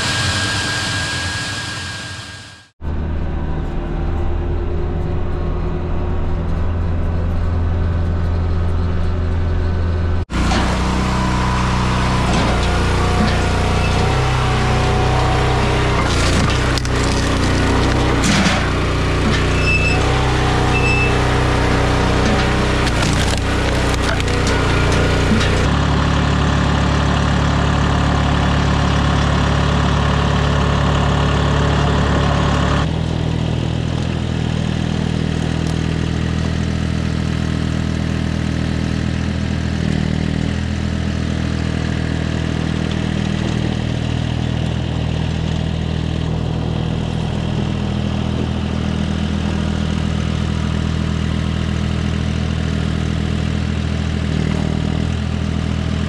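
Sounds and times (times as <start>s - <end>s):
engine running steadily: 2.8s - 56.0s.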